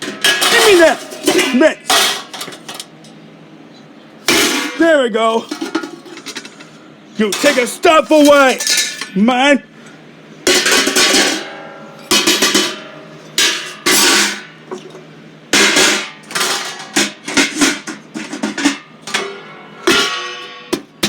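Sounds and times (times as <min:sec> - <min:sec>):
hard objects banging and clattering: 0:00.0 - 0:03.2, 0:04.2 - 0:09.2, 0:10.5 - 0:21.0.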